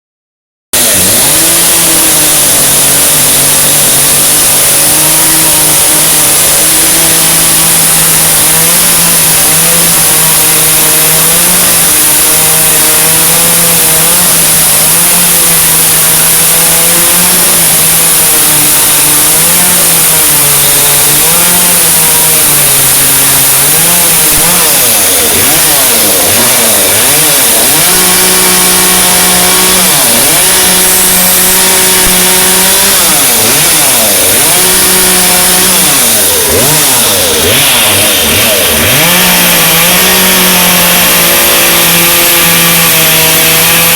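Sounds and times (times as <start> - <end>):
chainsaw running hard: 0.7 - 43.9.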